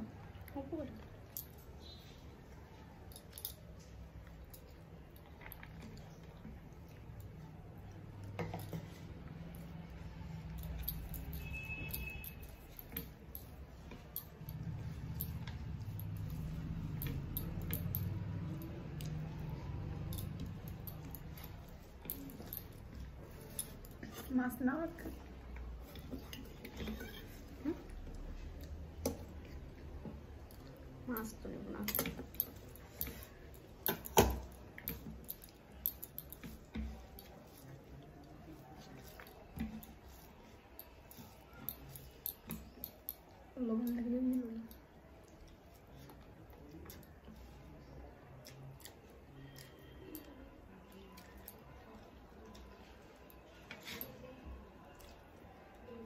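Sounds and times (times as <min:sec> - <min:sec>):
fingers mixing rice on plate: 0:00.0 - 0:56.0
chewing: 0:00.4 - 0:24.4, 0:25.0 - 0:33.8, 0:34.5 - 0:56.0.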